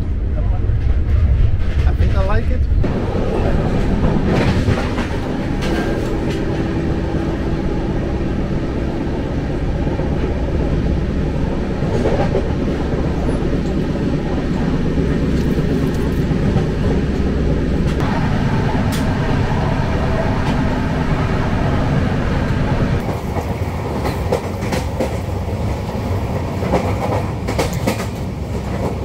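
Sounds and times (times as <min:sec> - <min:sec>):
train coach rumbling on track: 0:00.0 - 0:29.0.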